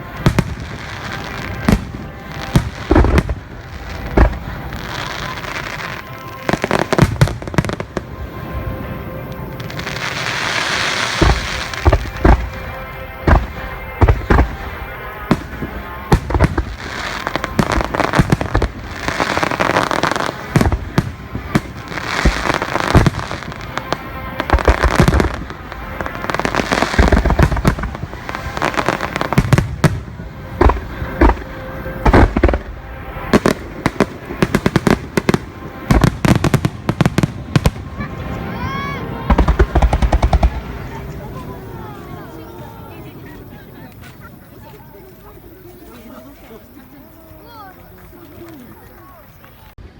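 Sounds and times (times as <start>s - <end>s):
fireworks booming: 0.0s - 42.3s
fireworks crackling: 0.0s - 49.9s.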